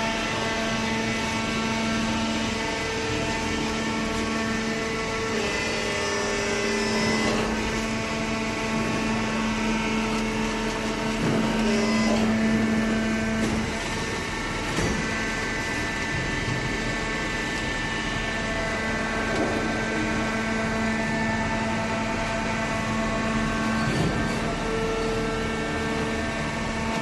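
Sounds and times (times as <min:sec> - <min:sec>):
baler motor and pump humming: 0:00.0 - 0:27.0.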